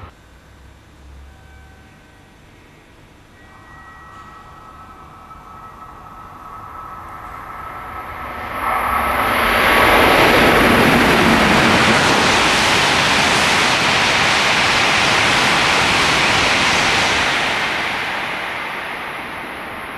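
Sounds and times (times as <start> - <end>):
high-speed train rushing past: 3.4 - 19.9.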